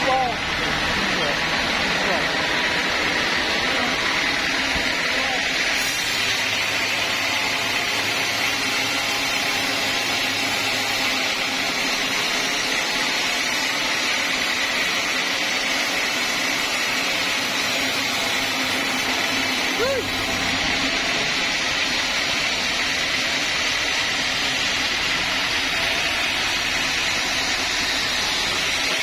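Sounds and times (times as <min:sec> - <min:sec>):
band sawmill running: 0:00.0 - 0:29.0
saw blade humming: 0:00.0 - 0:29.0.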